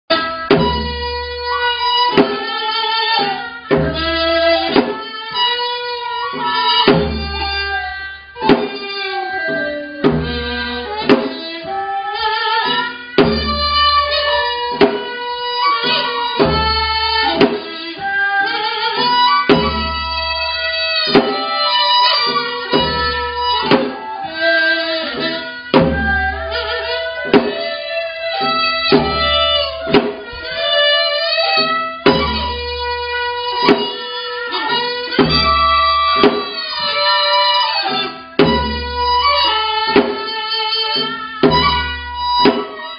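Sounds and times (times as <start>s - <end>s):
steady drum strokes: 6.4s - 37.2s, 37.8s - 42.9s.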